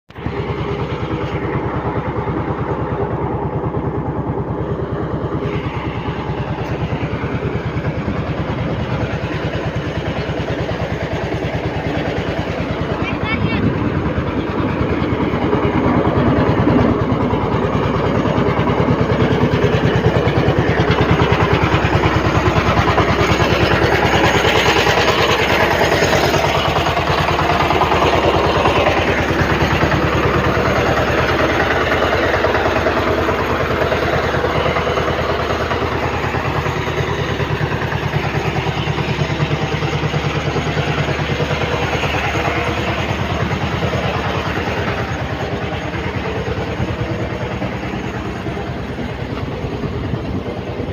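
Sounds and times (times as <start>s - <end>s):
tractor engine running: 0.1s - 50.9s.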